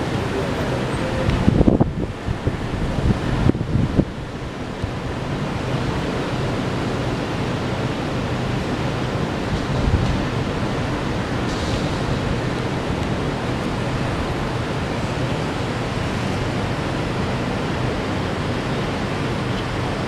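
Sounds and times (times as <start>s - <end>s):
city traffic roar: 0.0s - 20.0s.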